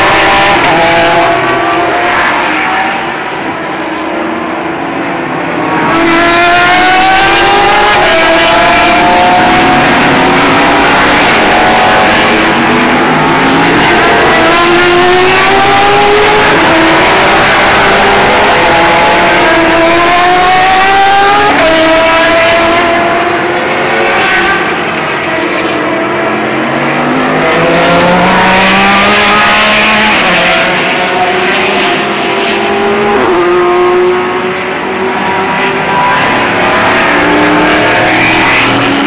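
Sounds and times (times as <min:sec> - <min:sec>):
race car engines: 0:00.0 - 0:39.0.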